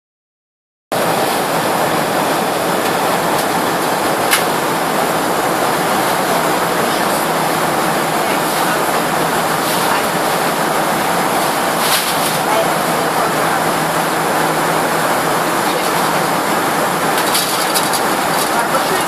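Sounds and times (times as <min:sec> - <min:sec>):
airliner cabin roar: 0:00.9 - 0:19.0.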